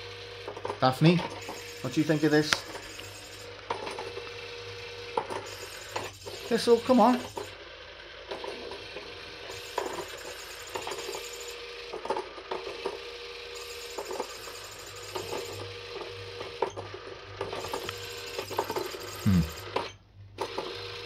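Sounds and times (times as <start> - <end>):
toy motor whirring: 0.0 - 21.0.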